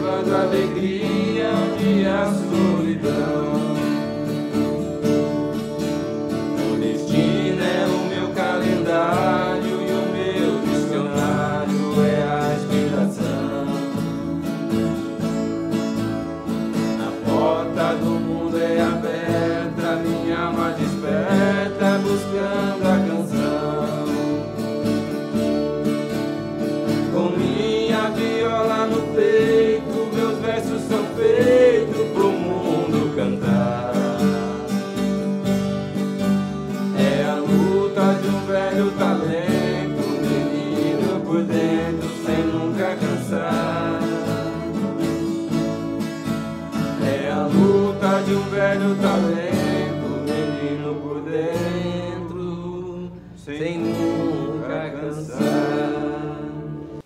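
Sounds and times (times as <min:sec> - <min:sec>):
acoustic guitars picking and strumming: 0:00.0 - 0:57.0.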